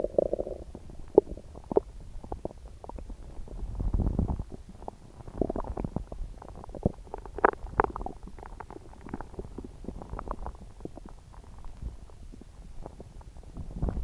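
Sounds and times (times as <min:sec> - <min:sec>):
stomach growling and gurgling: 0:00.0 - 0:14.0.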